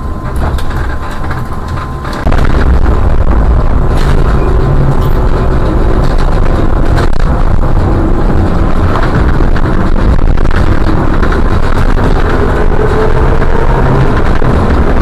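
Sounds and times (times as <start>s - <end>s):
trolleybus road rumble: 0.0s - 15.0s.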